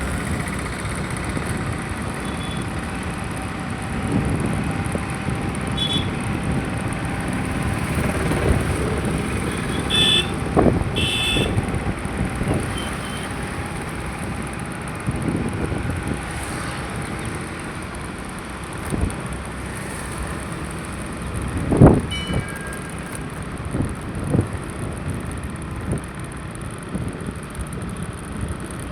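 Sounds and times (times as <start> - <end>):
road traffic noise: 0.0 - 28.9
wind buffeting microphone: 0.0 - 28.9.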